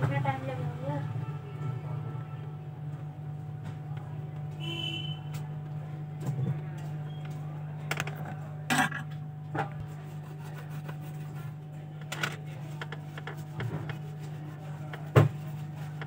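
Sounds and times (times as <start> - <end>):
steady low hum: 0.2 - 16.0.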